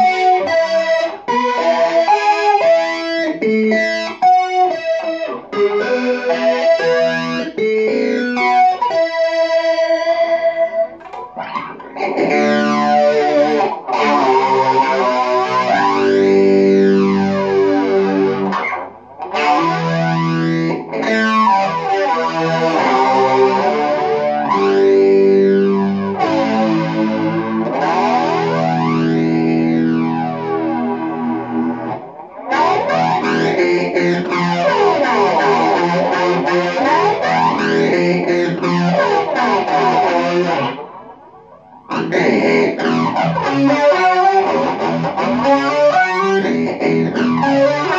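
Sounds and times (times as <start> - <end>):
distorted electric guitar chords: 0.0 - 47.9.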